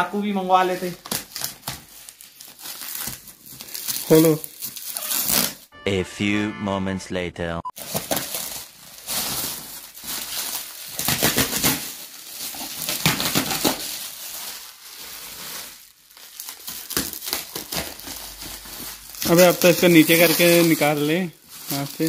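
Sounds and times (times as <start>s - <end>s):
bubble wrap crinkling: 0.0s - 5.7s, 7.8s - 22.0s.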